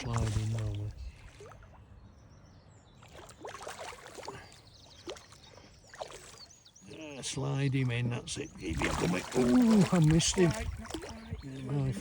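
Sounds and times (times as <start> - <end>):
water splashing and sloshing: 0.0 - 1.8, 3.0 - 6.6, 7.8 - 12.0.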